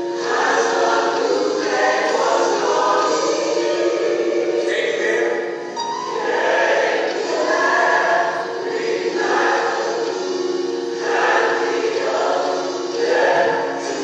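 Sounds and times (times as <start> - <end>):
choir singing long held notes: 0.0 - 14.0.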